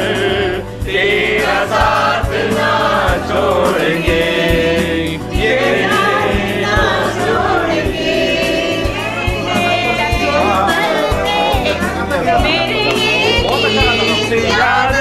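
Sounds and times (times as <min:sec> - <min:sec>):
song with steady beat: 0:00.0 - 0:15.0
voices singing: 0:00.0 - 0:15.0.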